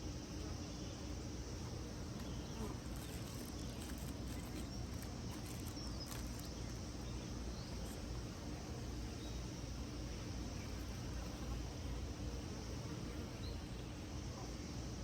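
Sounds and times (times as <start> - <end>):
faint insect hum: 0.0 - 15.0.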